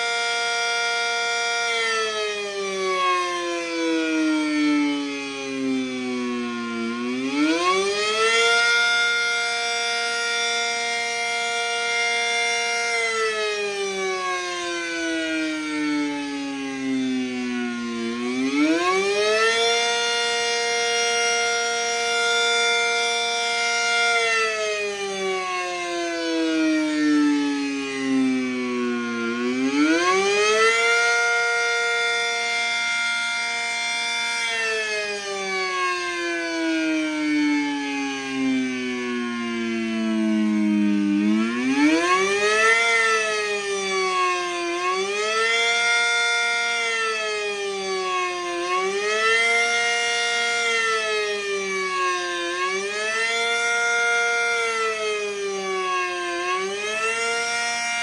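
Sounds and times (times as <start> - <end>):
outdoor warning siren wailing: 0.0 - 58.0.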